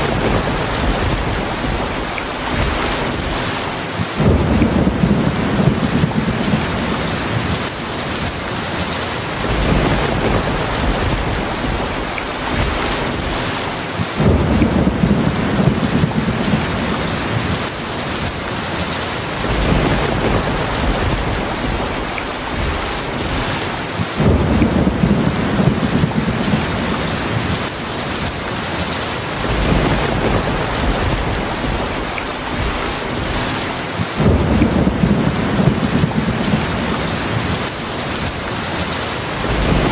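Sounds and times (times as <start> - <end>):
low rolling thunder: 0.0 - 18.4, 19.3 - 28.6, 29.2 - 39.9
heavy rain: 0.0 - 39.9.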